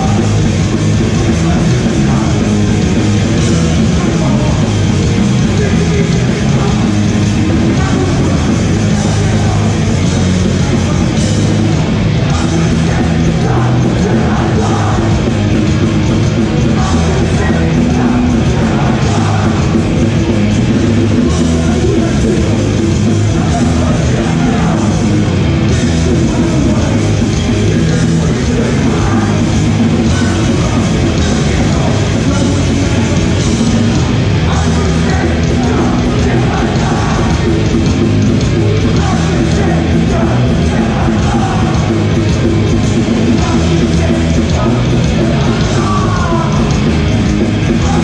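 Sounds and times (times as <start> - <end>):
punk band playing live: 0.0 - 48.0.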